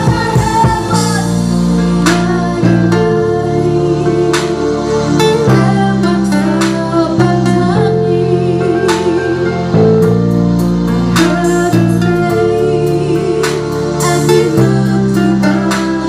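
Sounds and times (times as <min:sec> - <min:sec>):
band playing held guitar chords: 0:00.0 - 0:16.0.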